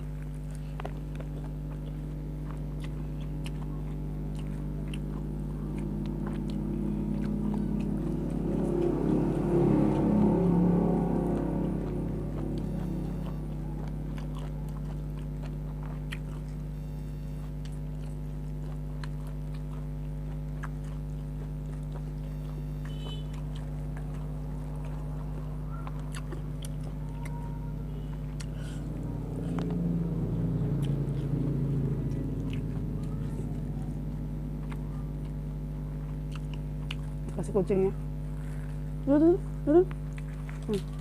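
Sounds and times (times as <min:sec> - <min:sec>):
person chewing food: 0:00.0 - 0:37.4, 0:38.0 - 0:41.0
steady low hum: 0:00.0 - 0:41.0.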